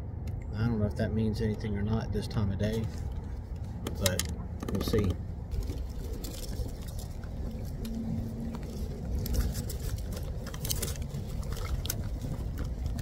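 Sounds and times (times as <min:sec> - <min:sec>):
faint steady hum: 0:00.0 - 0:13.0
wind buffeting microphone: 0:01.4 - 0:13.0.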